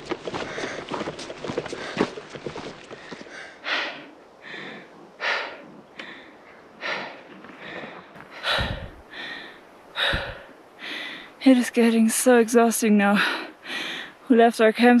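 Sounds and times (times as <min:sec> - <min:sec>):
woman panting hard: 0:00.2 - 0:11.3, 0:13.2 - 0:14.2.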